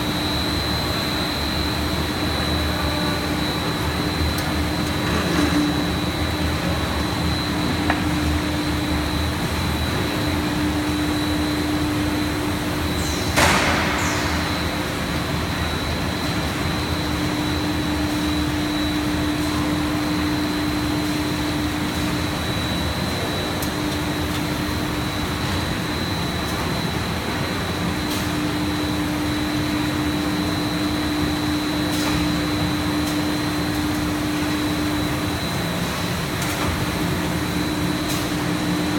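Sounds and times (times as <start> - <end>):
extrusion machine droning: 0.0 - 38.9.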